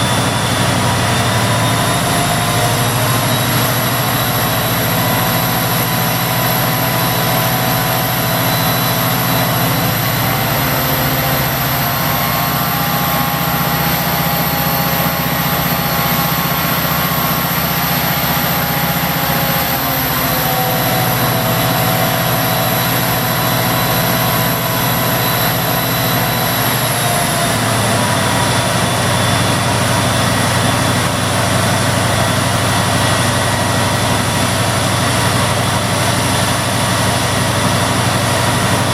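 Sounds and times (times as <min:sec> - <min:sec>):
diesel locomotive engine running: 0:00.0 - 0:38.9.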